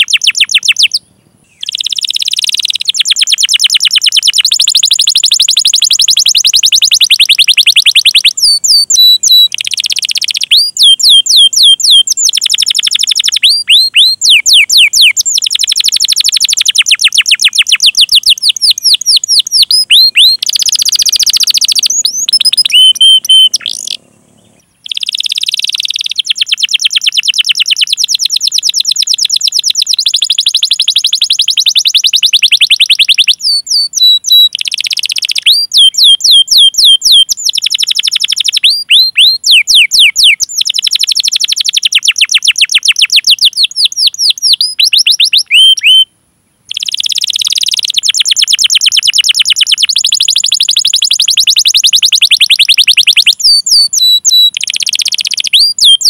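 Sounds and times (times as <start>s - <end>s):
canary singing trills: 0.0s - 46.1s, 46.7s - 56.0s.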